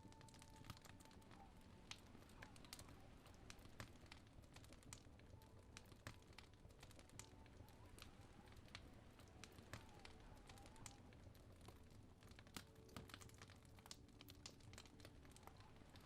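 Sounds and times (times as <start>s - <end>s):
fireplace crackling and popping: 0.0s - 16.0s.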